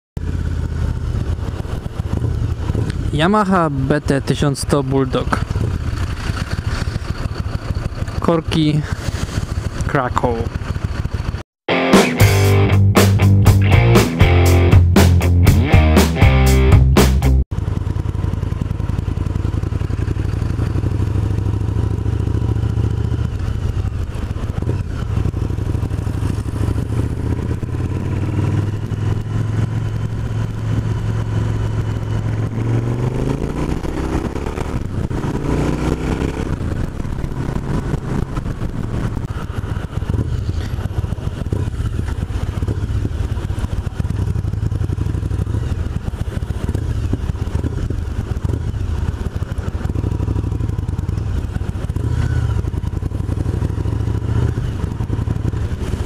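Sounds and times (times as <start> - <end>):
motorcycle engine running and revving: 0.2 - 11.5, 12.2 - 56.0.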